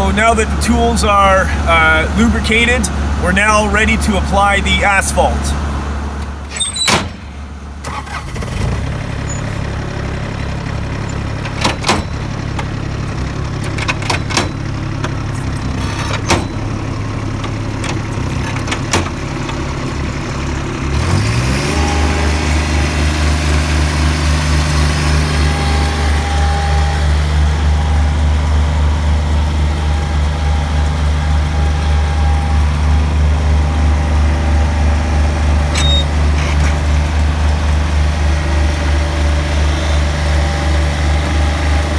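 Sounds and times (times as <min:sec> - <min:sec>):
loader engine running: 0:00.0 - 0:41.9.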